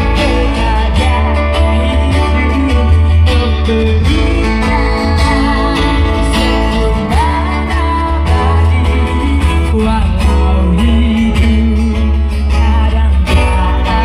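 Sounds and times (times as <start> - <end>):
band music: 0.0 - 14.0
gliding melodic line: 0.0 - 14.0
guitar: 0.0 - 14.0
heavy bass line: 0.0 - 14.0.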